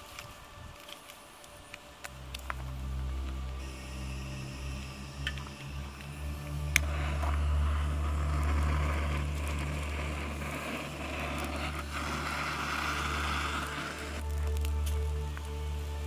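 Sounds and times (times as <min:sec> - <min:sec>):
blowtorch flame hissing: 0:00.0 - 0:16.0.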